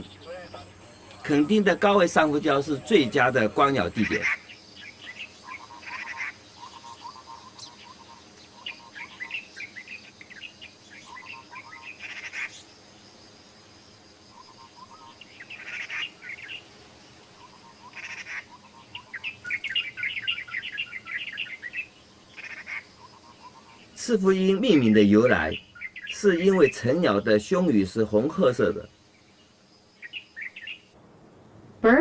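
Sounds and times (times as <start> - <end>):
birds chirping: 0.0 - 32.0
faint high-pitched hiss: 0.0 - 32.0.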